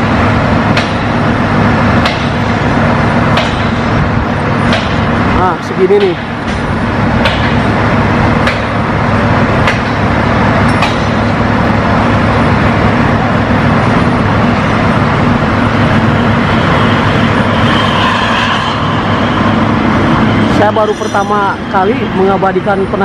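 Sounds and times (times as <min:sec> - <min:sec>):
engine low drone: 0:00.0 - 0:23.0.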